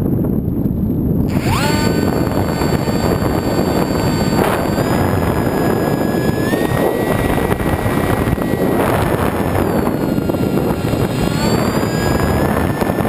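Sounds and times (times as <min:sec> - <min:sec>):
wind buffeting microphone: 0:00.0 - 0:13.0
model plane motor whining: 0:01.3 - 0:13.0.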